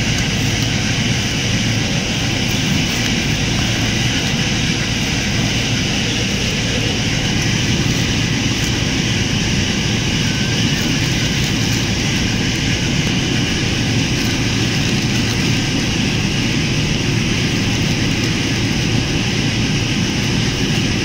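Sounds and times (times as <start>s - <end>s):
loud mechanical drone with rushing: 0.0s - 21.0s.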